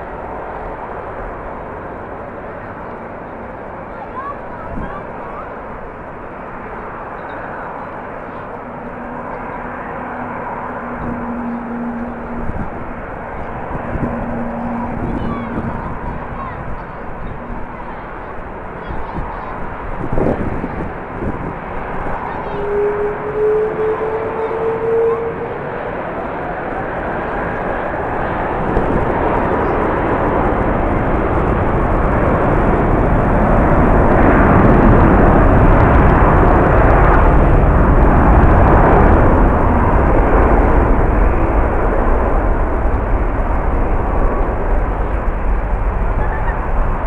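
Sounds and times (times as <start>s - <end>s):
jet airliner passing: 0.0s - 47.0s
wind rumble on microphone: 0.0s - 47.0s.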